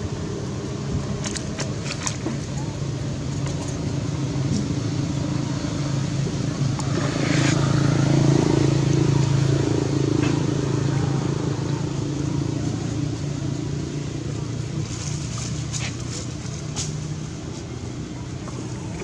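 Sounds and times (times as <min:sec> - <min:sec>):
vehicle engine passing by: 0:03.4 - 0:19.0.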